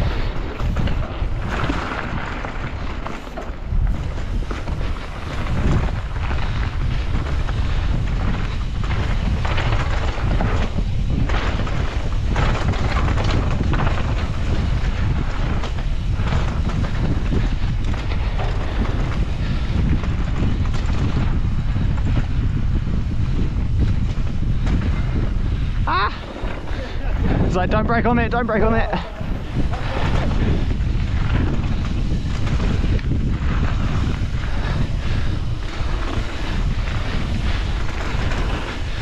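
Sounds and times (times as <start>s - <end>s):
bike knocking and rattling: 0.0s - 39.0s
bike tyre noise: 0.0s - 39.0s
wind on microphone: 0.0s - 39.0s.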